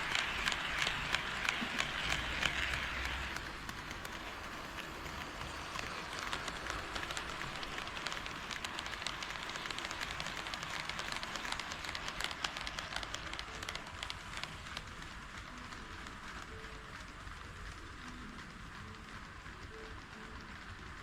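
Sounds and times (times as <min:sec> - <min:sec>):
model train running hiss: 0:00.0 - 0:21.0
wheels clicking on rails: 0:00.0 - 0:21.0.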